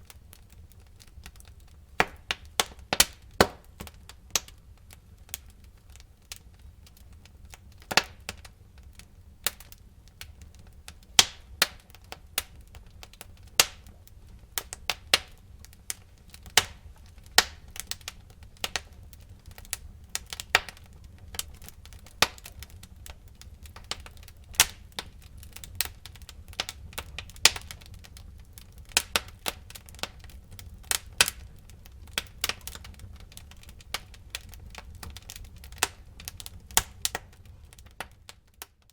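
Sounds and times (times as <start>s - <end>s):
firewood crackling and popping: 0.0s - 38.9s
low rumble of fire: 0.0s - 38.9s.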